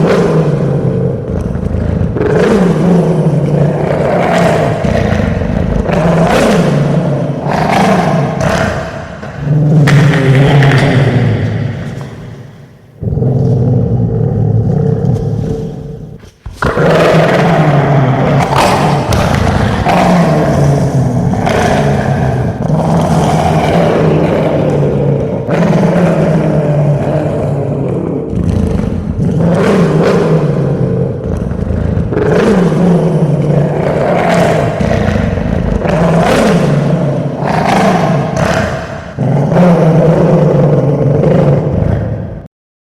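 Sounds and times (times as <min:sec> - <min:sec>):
dog growling: 0:00.0 - 0:12.4, 0:13.0 - 0:42.2.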